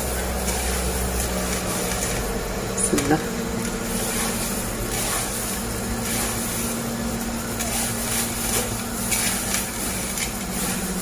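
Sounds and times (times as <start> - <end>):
dried pasta rustling in wooden bowl: 0.0 - 11.0
low mechanical hum: 0.0 - 11.0.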